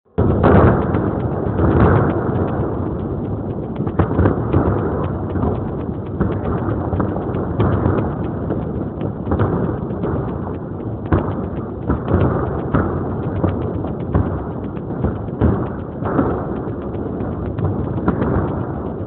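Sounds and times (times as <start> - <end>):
fireworks sharp cracks: 0.1 - 19.0
fireworks booms: 0.2 - 19.0.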